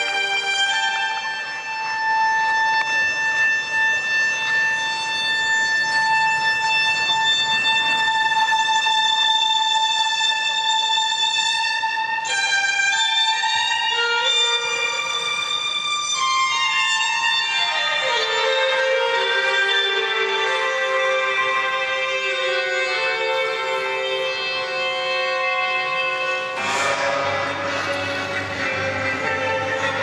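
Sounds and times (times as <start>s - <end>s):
violin-led program music: 0.0s - 30.0s.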